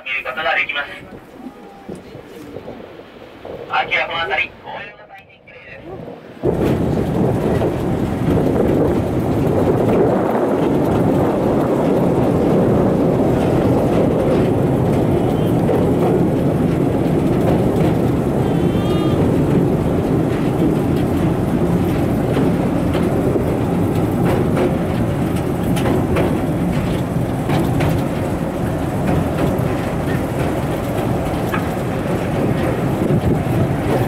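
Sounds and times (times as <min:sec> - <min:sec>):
rail cart wheels rumbling on rails: 0:00.0 - 0:34.0.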